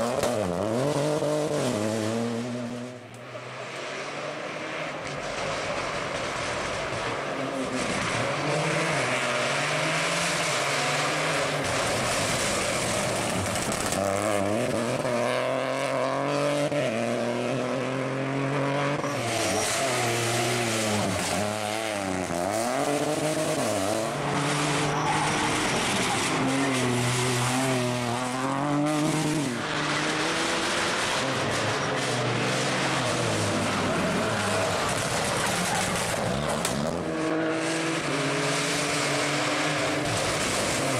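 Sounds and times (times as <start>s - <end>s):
rally car engine shifting gears: 0.0s - 40.9s.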